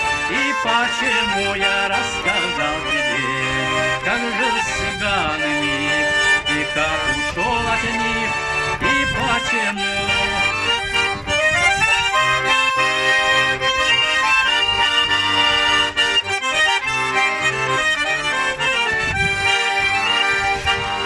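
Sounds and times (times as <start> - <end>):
button accordion playing: 0.0 - 21.0.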